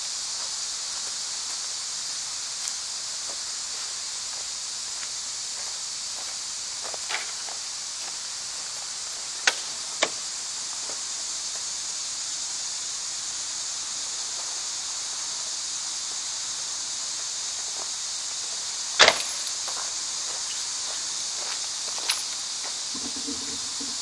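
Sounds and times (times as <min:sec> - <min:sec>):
high-pitched hiss: 0:00.0 - 0:24.0.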